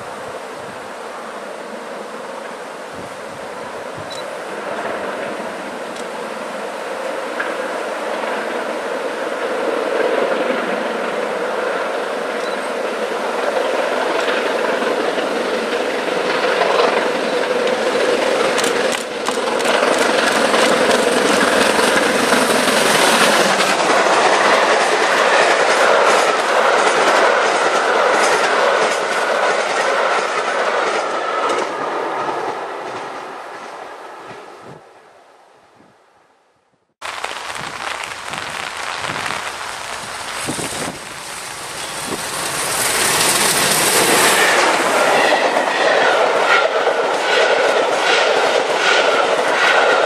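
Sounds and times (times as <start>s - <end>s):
steam locomotive passing: 0.0s - 35.2s, 37.1s - 50.0s.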